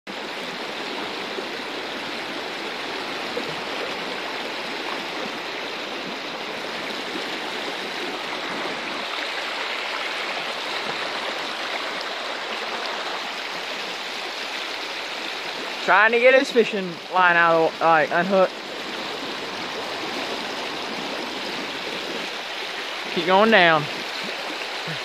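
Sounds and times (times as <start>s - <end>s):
river water rushing over rocks: 0.1s - 25.0s.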